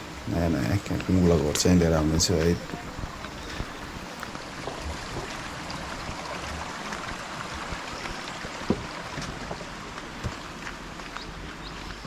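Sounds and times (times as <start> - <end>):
river water rushing over stones: 0.0 - 12.0.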